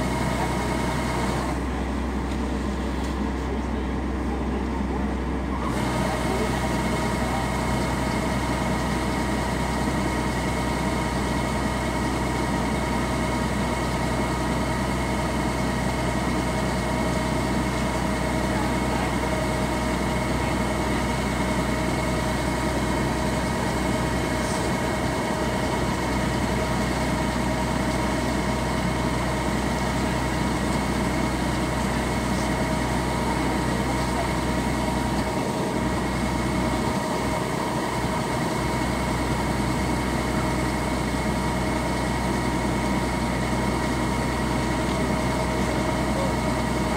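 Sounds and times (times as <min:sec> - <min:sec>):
diesel engine droning with whine: 0:00.0 - 0:46.9.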